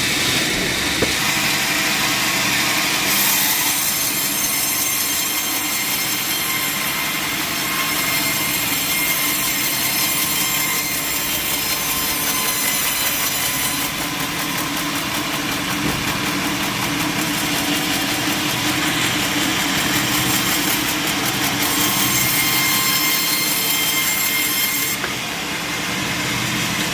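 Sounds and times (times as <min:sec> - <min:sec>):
sawmill machinery running: 0:00.0 - 0:26.9.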